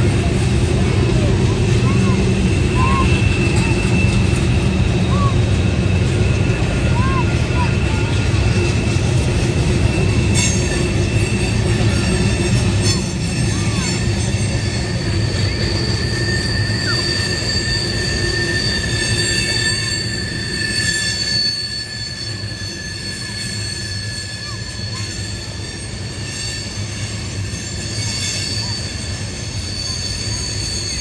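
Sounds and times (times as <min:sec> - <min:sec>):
train wheels rumbling on rail: 0:00.0 - 0:31.0
high-pitched wheel squeal: 0:01.3 - 0:31.0.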